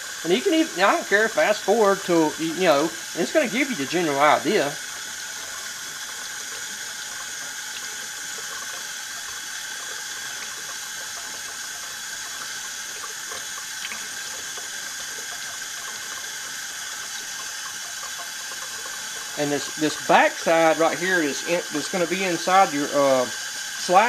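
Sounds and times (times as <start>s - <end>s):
faucet running into metal sink: 0.0s - 24.0s.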